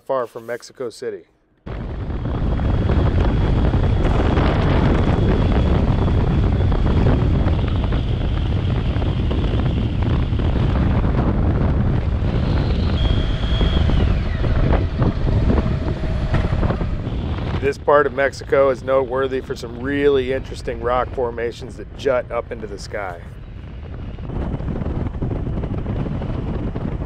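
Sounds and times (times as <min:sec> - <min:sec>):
motorcycle engine and road noise: 0:01.6 - 0:27.0
wind rushing over microphone: 0:01.6 - 0:27.0.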